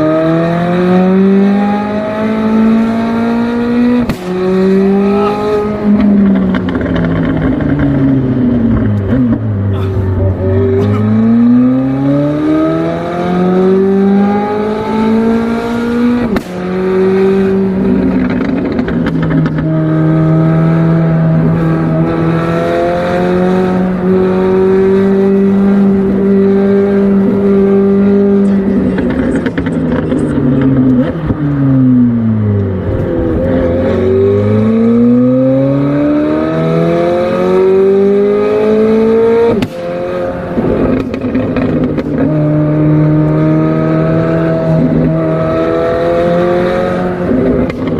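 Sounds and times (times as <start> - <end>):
car engine accelerating hard: 0.0 - 47.9.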